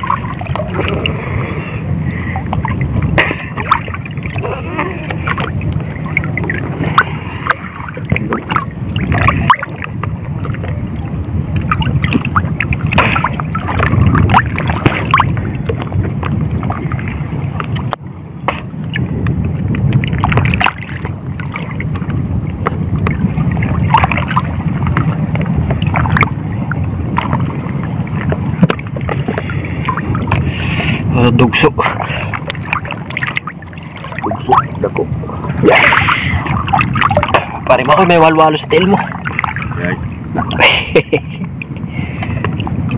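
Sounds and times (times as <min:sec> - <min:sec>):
sea water sloshing around wader: 0:00.0 - 0:42.9
wind on microphone: 0:00.0 - 0:42.9.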